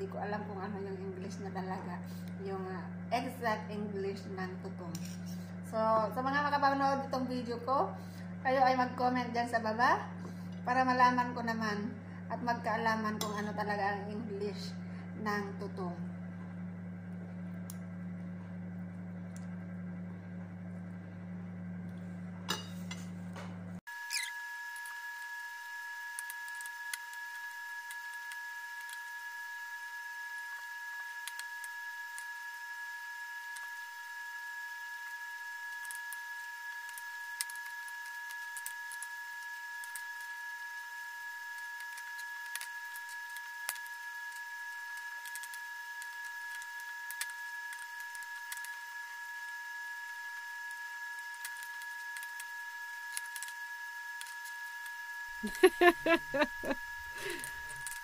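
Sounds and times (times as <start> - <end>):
high-pitched hum: 0.0 - 16.6, 22.4 - 58.0.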